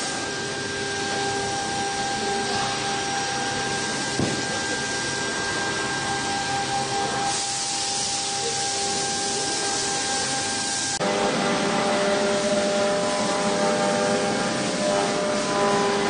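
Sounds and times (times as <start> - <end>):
loud machine noise: 0.0 - 16.0
wood router spindle whining: 0.0 - 16.0.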